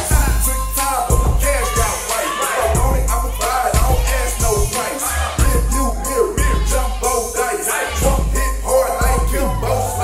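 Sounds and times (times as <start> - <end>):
hip hop music with bass beat: 0.0 - 10.0
rap vocals: 0.0 - 10.0.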